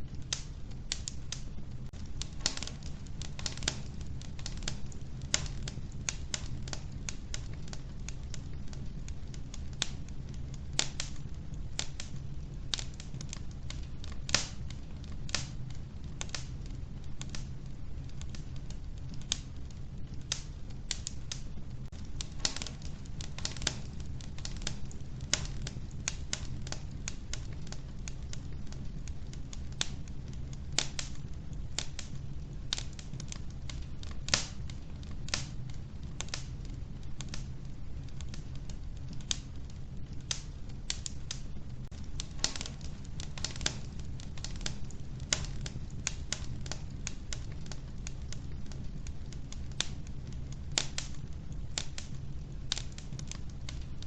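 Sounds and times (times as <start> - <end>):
low rumble of fire: 0.0 - 54.0
wood fire pops and snaps: 0.0 - 54.0.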